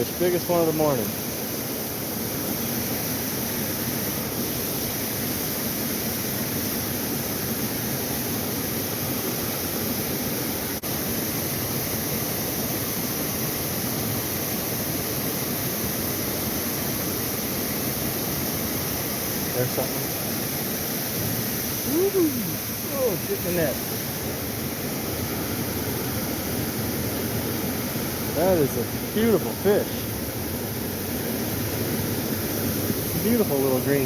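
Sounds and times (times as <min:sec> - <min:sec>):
creek water running: 0:00.0 - 0:34.0.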